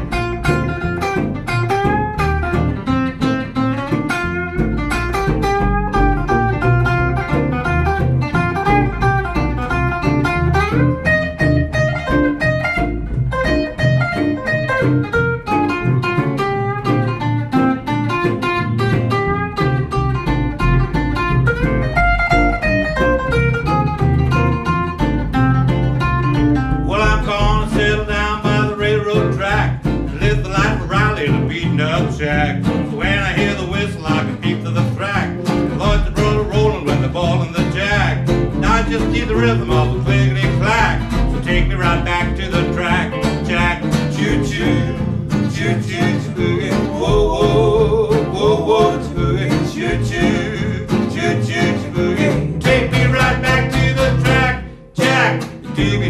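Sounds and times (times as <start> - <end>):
boogie band playing: 0.0 - 56.0
electric and acoustic guitars: 0.0 - 56.0
upright bass: 0.0 - 56.0.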